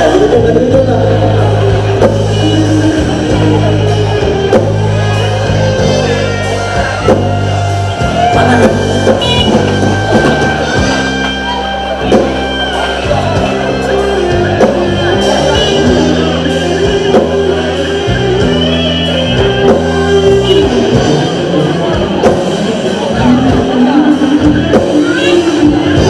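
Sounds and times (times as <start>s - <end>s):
electric guitar: 0.0s - 26.0s
live rock band playing: 0.0s - 26.0s.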